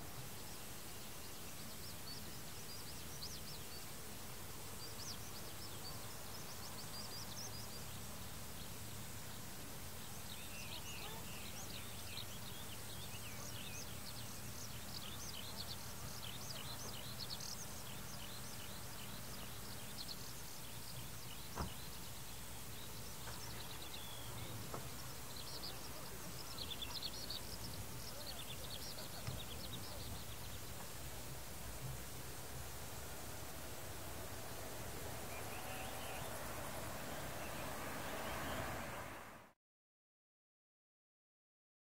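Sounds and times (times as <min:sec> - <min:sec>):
small birds chirping: 0:00.0 - 0:39.3.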